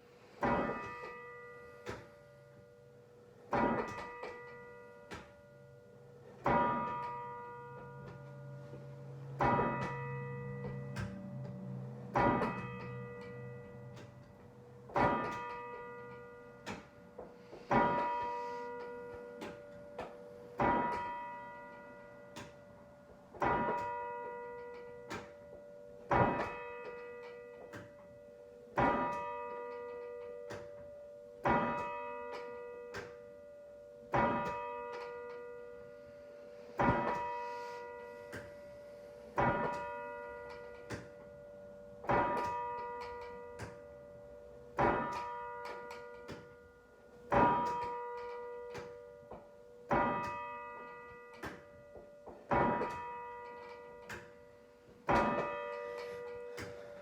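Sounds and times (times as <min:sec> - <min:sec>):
church bell tolling: 0:00.2 - 0:57.0.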